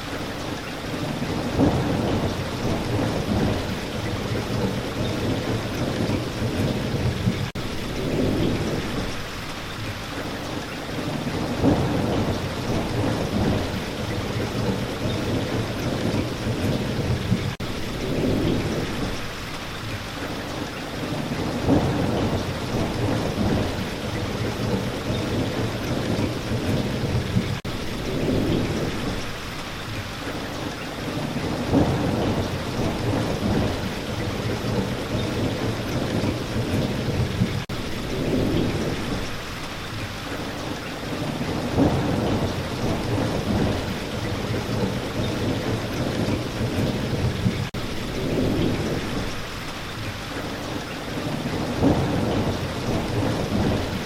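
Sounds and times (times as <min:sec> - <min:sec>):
steady rain: 0:00.0 - 0:54.0
rolling thunder: 0:01.0 - 0:09.3, 0:11.0 - 0:19.4, 0:21.0 - 0:29.3, 0:31.1 - 0:50.0, 0:51.1 - 0:54.0.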